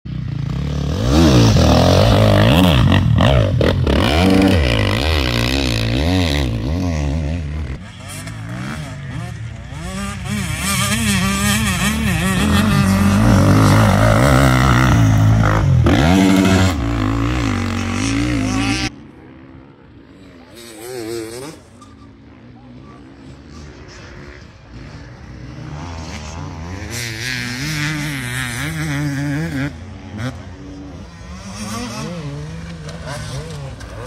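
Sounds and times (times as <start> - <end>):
dirt bike engines revving: 0.1 - 34.0.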